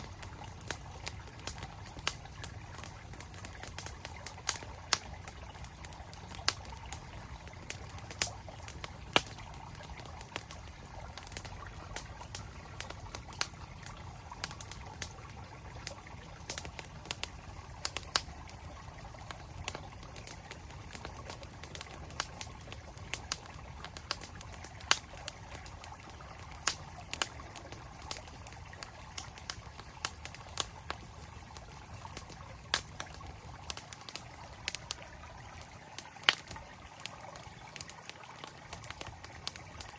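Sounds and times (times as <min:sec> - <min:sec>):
flowing mountain stream: 0:00.0 - 0:39.9
wood fire crackling and popping: 0:00.0 - 0:39.9.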